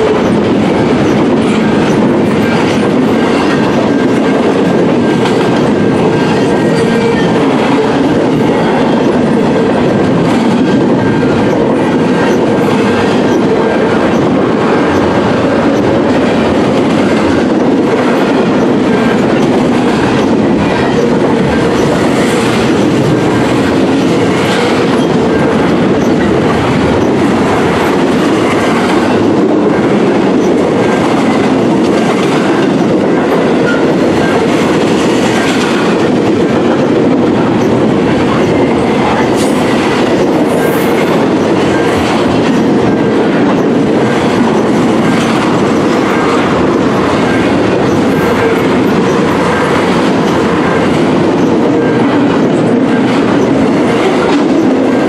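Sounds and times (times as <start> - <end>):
freight train wheels rumbling: 0.0 - 55.0
wheels clacking over rail joints: 0.0 - 55.0.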